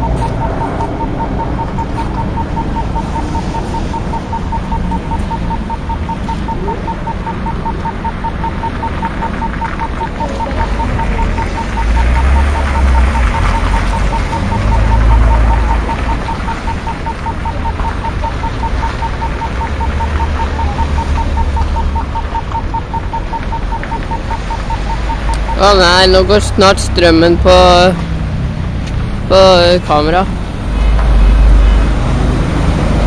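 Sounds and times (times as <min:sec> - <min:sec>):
level crossing warning bell ringing: 0:00.0 - 0:28.0.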